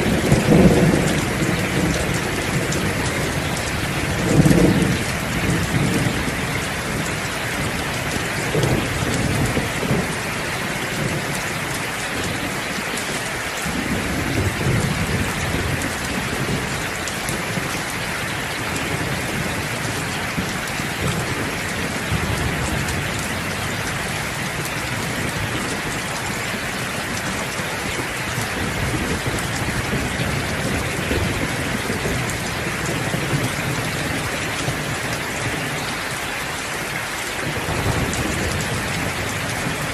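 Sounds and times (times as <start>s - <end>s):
low thunder rumbles: 0.0s - 12.7s, 13.6s - 35.9s, 37.4s - 39.9s
dense rainfall: 0.0s - 39.9s.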